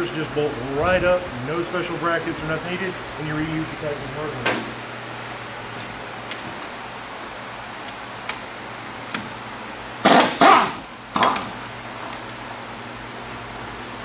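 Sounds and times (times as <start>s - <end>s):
steady shop hum: 0.0s - 14.0s.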